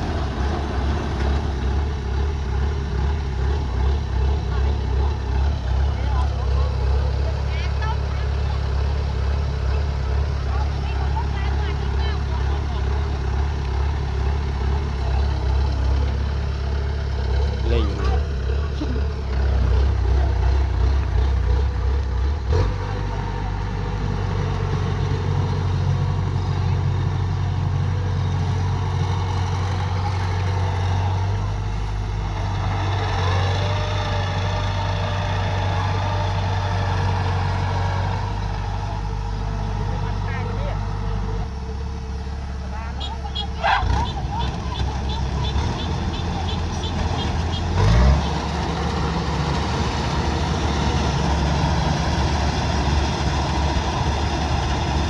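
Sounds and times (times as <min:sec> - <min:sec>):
combine harvester droning: 0:00.0 - 0:55.0
diesel engine running: 0:00.0 - 0:55.0.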